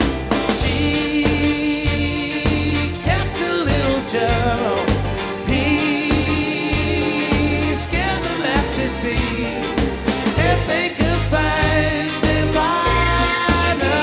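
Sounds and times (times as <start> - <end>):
bass guitar: 0.0 - 14.0
drums: 0.0 - 14.0
keyboards: 0.0 - 14.0
voices singing: 0.0 - 14.0.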